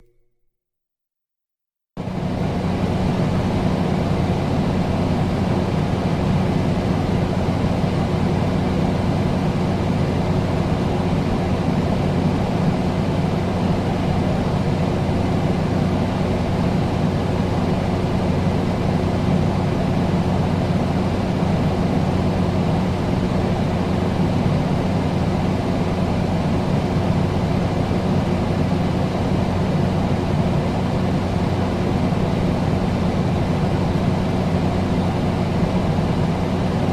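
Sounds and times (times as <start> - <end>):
air conditioner running: 2.0 - 36.9.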